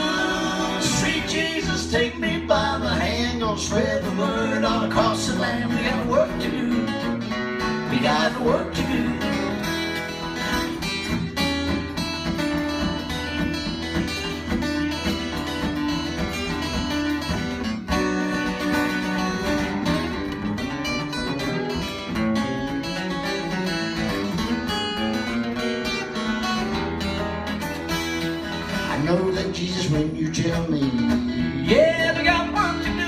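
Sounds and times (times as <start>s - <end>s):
lead guitar: 0.0s - 33.0s
live band playing: 0.0s - 33.0s.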